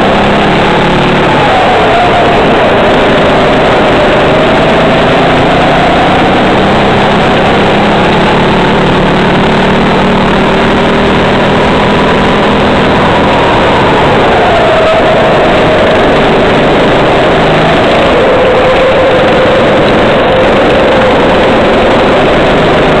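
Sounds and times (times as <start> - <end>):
kart engine revving: 0.0 - 23.0.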